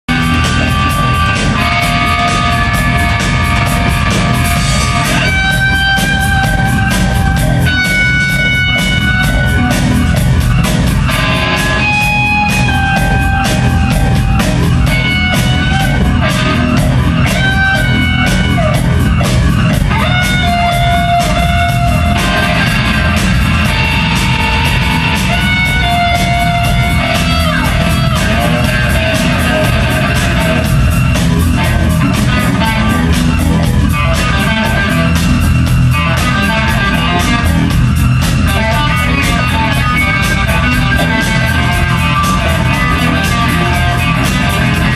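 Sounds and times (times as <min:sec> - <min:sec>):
heavy bass line: 0:00.0 - 0:44.9
electric guitar sustained notes: 0:00.1 - 0:44.9
fast drumming: 0:00.1 - 0:44.9.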